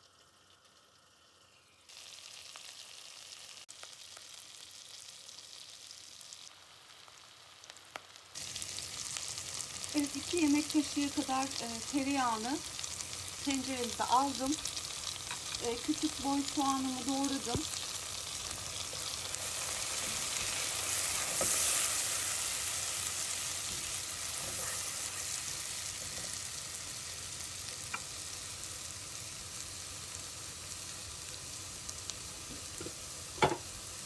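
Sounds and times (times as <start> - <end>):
onion sizzling in butter: 0.0 - 34.0.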